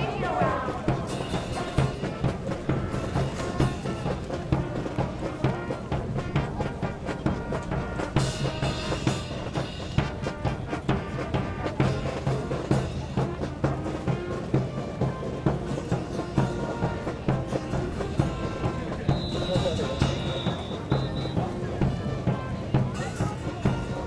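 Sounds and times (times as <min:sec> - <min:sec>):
music with drum beat: 0:00.0 - 0:24.0.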